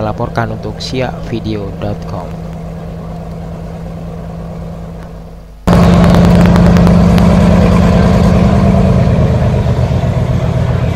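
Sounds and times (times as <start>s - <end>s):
ferry engines droning: 0.0s - 10.9s.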